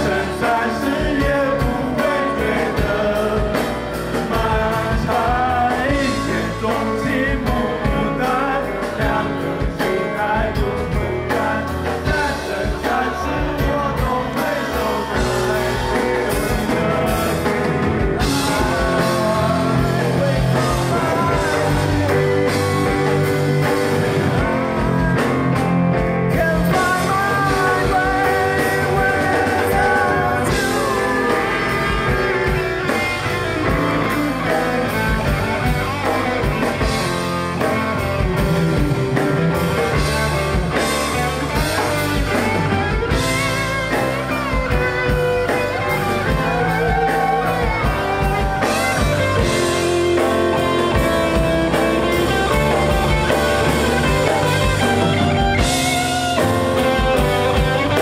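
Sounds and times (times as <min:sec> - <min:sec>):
person singing: 0:00.0 - 0:58.0
rock band playing ballad: 0:00.0 - 0:58.0.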